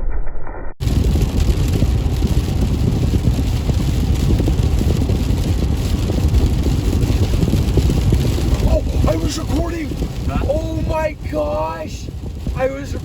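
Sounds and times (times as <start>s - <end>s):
car road and wind noise: 0.8s - 13.0s.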